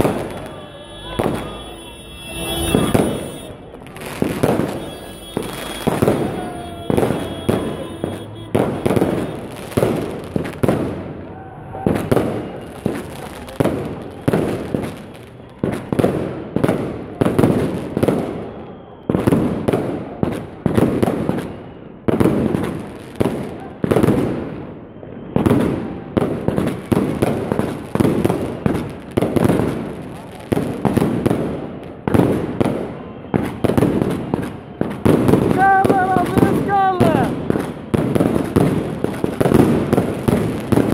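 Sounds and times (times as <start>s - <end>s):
fireworks bangs with echo: 0.0s - 40.9s.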